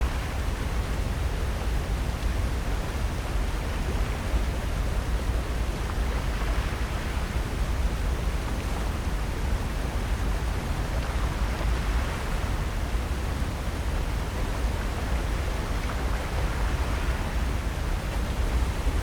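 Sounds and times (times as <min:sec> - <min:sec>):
wind: 0:00.0 - 0:19.0
ocean surf: 0:03.7 - 0:19.0.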